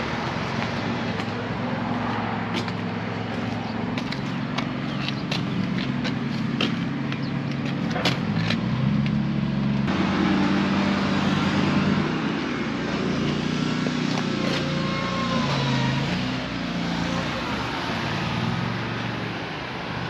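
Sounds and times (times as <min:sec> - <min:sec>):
mower engine humming: 0:00.0 - 0:19.8.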